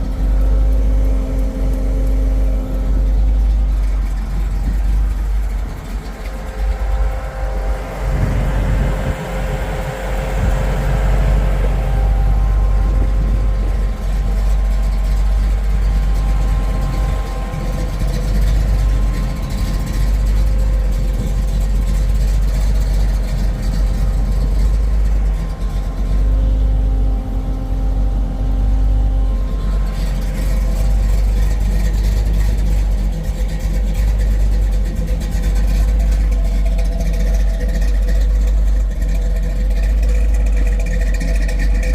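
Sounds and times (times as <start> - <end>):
car engine rumbling: 0.0 - 41.9.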